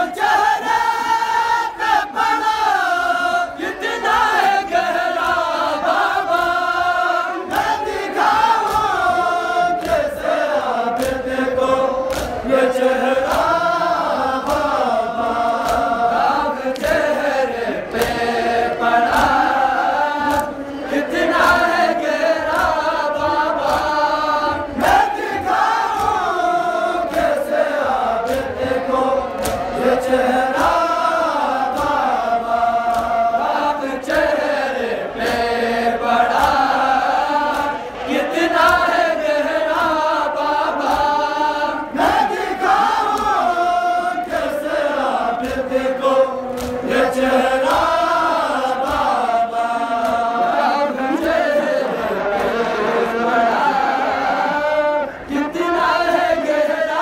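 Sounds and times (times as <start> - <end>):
mourners chanting a lament: 0.0 - 57.0.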